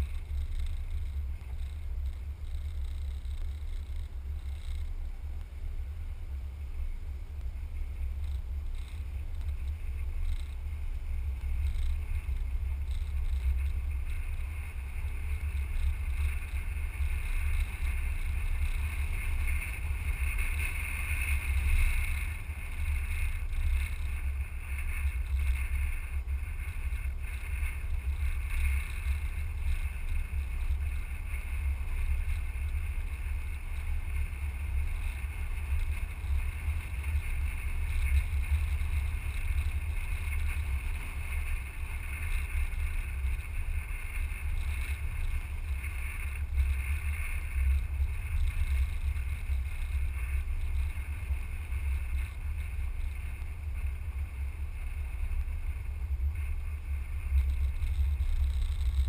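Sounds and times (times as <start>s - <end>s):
tyres on gravel road: 0.0s - 59.0s
wind buffeting microphone: 0.0s - 59.0s.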